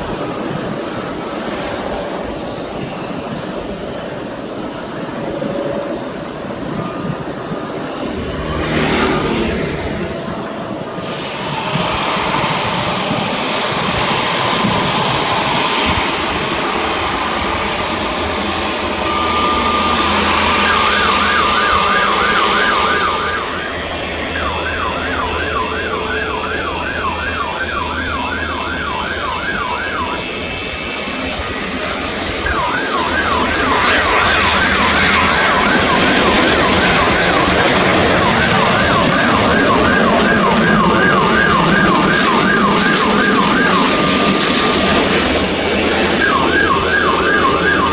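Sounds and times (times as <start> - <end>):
emergency vehicle siren: 0.0 - 47.9
jet airliner engine noise: 0.0 - 47.9.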